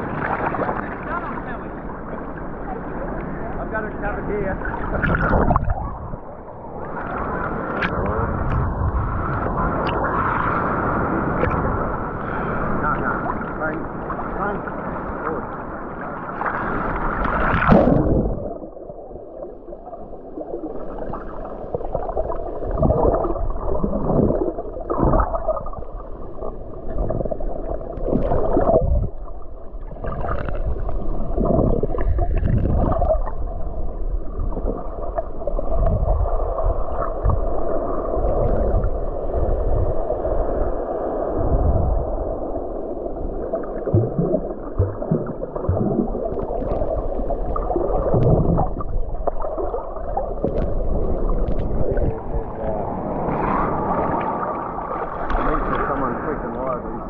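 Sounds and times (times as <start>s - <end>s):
underwater rushing water: 0.0s - 57.0s.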